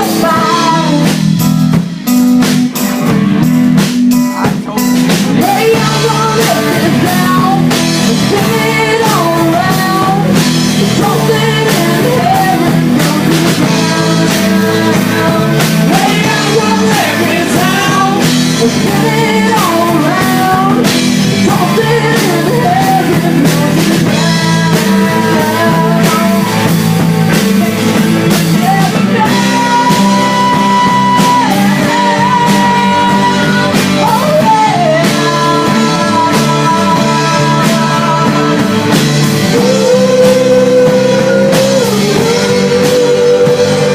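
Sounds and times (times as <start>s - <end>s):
person singing lead vocal: 0.0s - 1.6s, 4.1s - 43.9s
rock band playing: 0.0s - 43.9s.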